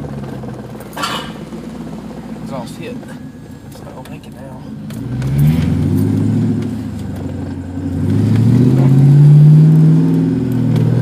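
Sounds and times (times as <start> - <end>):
car engine revving in cabin: 0.0 - 11.0.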